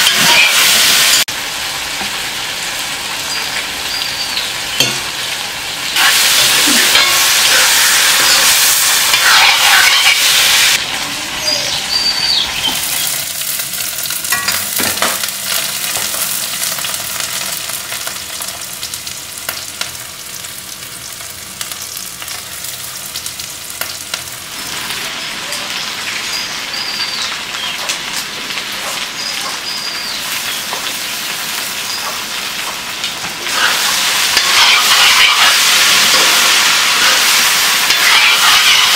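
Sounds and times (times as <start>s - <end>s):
chicken sizzling in a wok: 0.0s - 38.9s.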